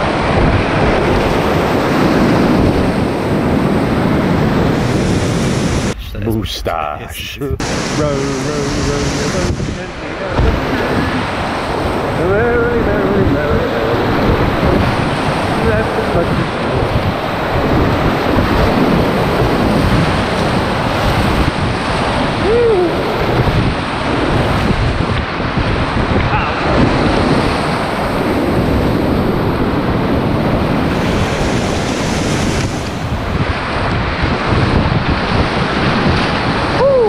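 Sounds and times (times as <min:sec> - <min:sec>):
water buffeting microphone: 0:00.0 - 0:37.0.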